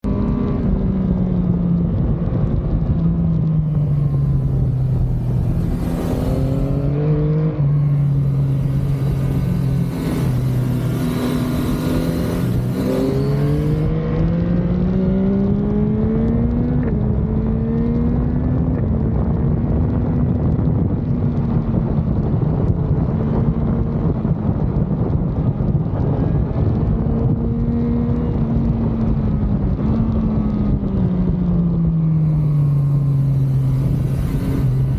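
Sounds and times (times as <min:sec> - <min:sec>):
motorcycle engine revving: 0:00.0 - 0:20.0, 0:25.9 - 0:34.9.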